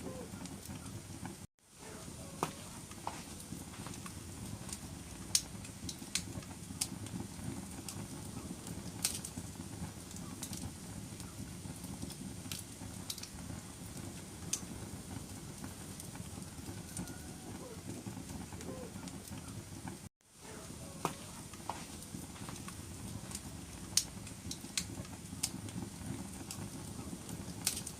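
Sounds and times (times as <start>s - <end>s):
fire crackling and popping: 0.0s - 27.9s
low rumble of flames: 0.0s - 27.9s.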